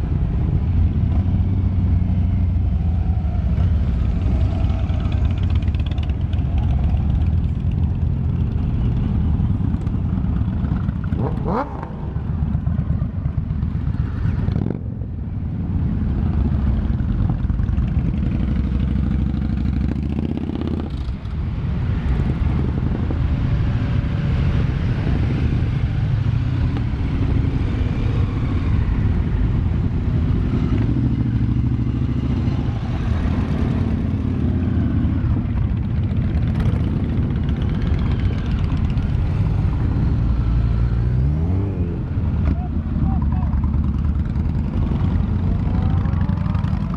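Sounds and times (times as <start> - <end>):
motorcycles riding past: 0.0 - 46.9.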